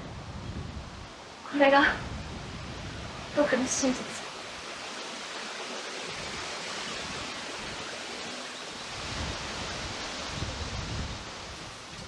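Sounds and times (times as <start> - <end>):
rushing wind: 0.0 - 12.0
wind gusts buffeting microphone: 0.0 - 12.0.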